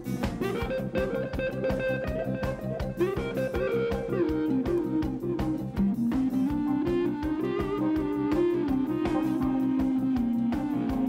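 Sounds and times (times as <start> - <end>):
bass guitar: 0.0 - 11.0
drum beat: 0.0 - 11.0
electric guitar: 0.0 - 11.0.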